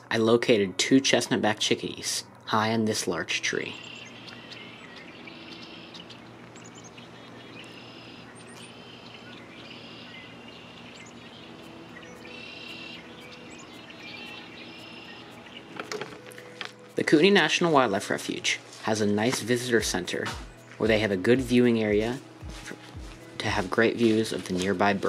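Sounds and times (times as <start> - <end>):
steady low hum: 0.0 - 25.0
small birds chirping: 3.1 - 25.0.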